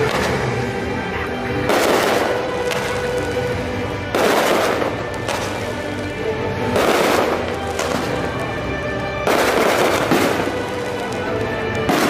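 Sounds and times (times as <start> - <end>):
fireworks booming and crackling: 0.0 - 12.0
music with sustained tones: 0.0 - 12.0.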